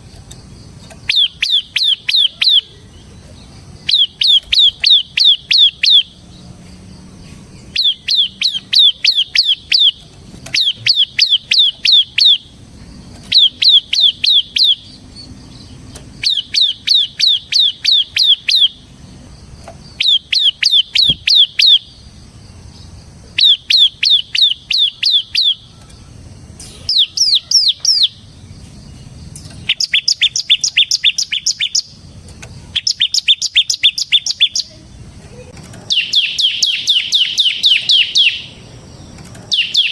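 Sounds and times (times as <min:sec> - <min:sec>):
bird singing sharp repeated notes: 0:00.4 - 0:34.9, 0:35.9 - 0:39.9.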